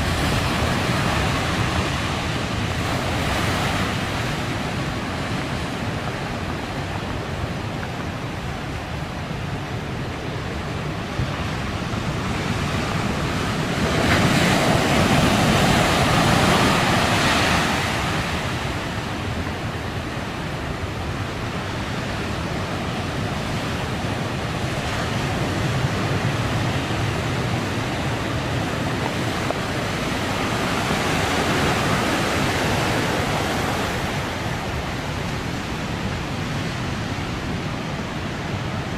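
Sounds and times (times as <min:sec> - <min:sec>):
heavy surf breaking on shore: 0:00.0 - 0:38.9.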